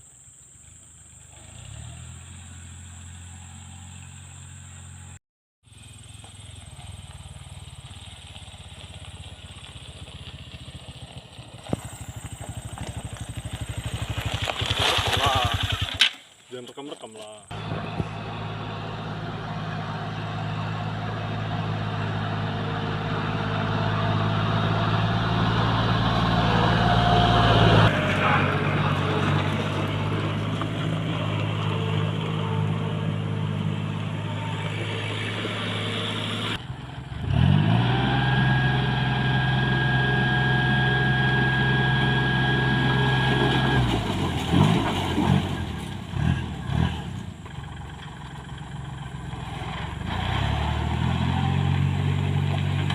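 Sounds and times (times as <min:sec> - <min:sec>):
diesel engine running: 0:00.0 - 0:16.0, 0:17.4 - 0:52.9.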